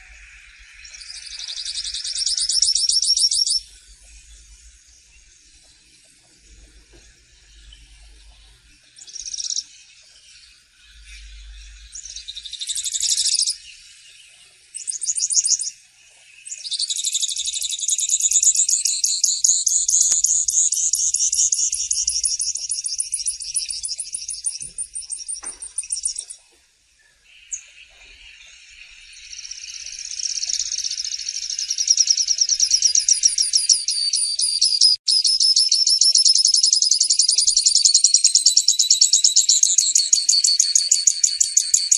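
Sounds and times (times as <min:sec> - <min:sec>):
finch singing high trills: 0:00.0 - 0:15.8, 0:16.4 - 0:26.4, 0:27.1 - 0:41.9.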